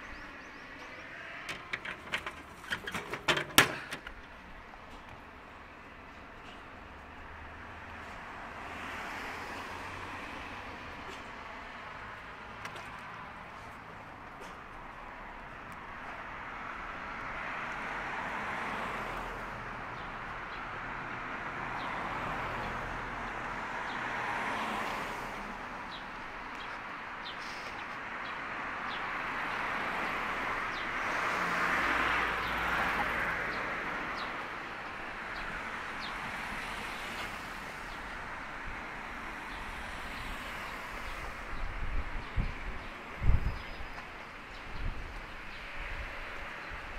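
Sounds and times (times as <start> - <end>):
cars passing: 0.0 - 46.9.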